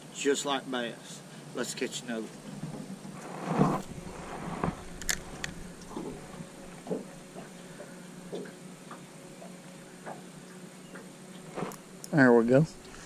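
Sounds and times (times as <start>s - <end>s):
faint low hum: 0.1s - 13.0s.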